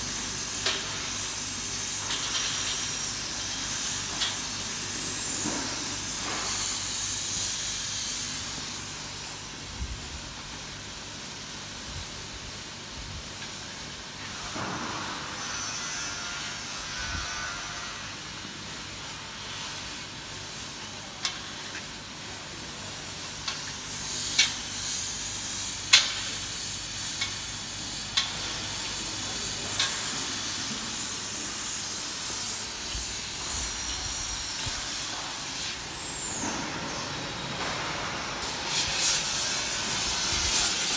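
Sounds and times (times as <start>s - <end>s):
welding torch flame hissing: 0.0s - 16.5s, 17.3s - 40.9s.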